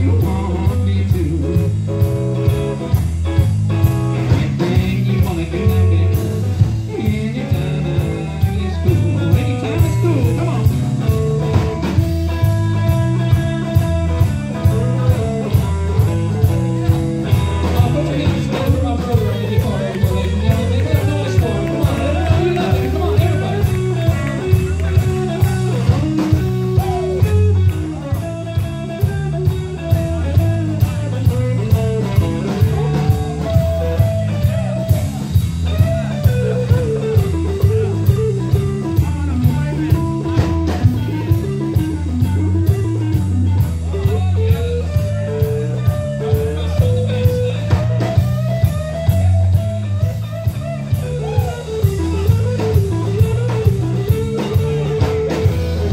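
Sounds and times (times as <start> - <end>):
bass guitar: 0.0 - 55.9
drum beat: 0.0 - 55.9
lead electric guitar: 0.0 - 55.9.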